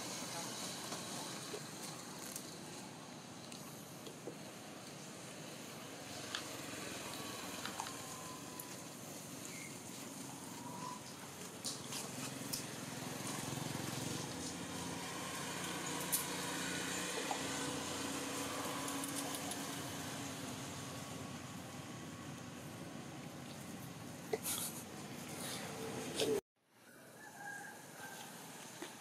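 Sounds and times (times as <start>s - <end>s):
motor vehicle passing: 0.0s - 26.4s.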